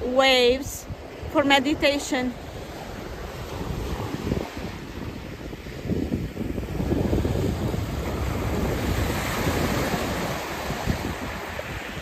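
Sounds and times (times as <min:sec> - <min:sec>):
waves washing up shingle beach: 0:00.0 - 0:12.0
wind buffeting microphone: 0:00.0 - 0:12.0.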